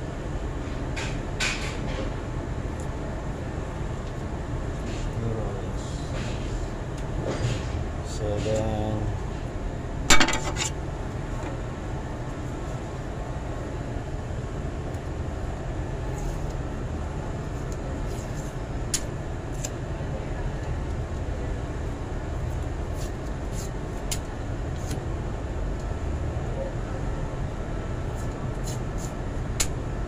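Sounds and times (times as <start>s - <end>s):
low machinery rumble: 0.0s - 30.0s.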